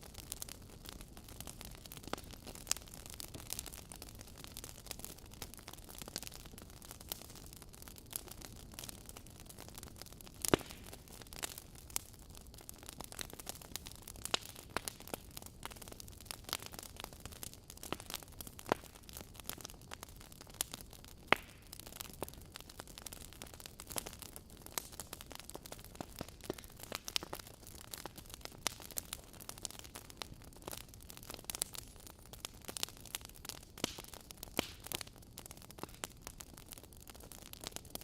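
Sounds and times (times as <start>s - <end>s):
burning log popping: 0.0s - 38.0s
fire hissing and crackling: 0.0s - 38.0s.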